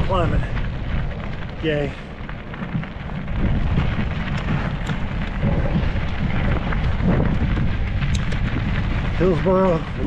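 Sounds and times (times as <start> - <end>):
bike tyres crunching on rocks: 0.0 - 10.0
wind buffeting microphone: 0.0 - 10.0.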